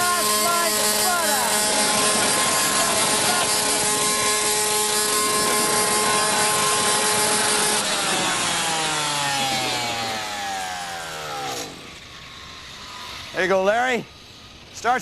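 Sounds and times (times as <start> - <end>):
weed trimmer high-pitched whine: 0.0 - 15.0.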